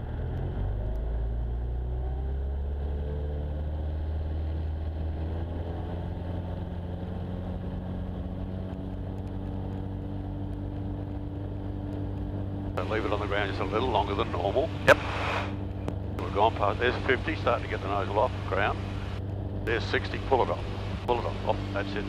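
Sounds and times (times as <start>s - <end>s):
faint rising whine: 0.0s - 22.0s
light aircraft engine droning: 0.0s - 22.0s.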